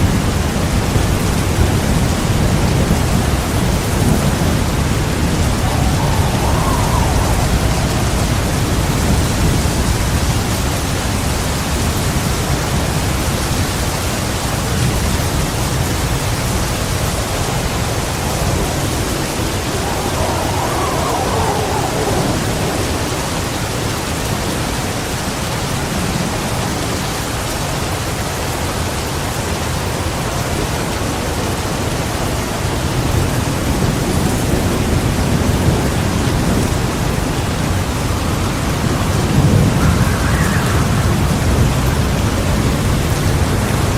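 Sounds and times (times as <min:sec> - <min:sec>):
low rolling thunder: 0:00.0 - 0:27.4, 0:32.7 - 0:43.9
heavy rain: 0:00.0 - 0:43.9.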